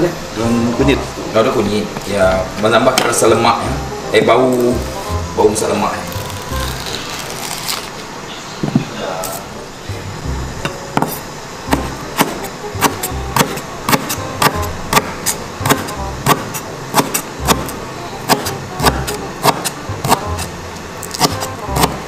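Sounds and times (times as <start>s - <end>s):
background music with steady beat: 0.0s - 7.6s, 9.4s - 22.0s.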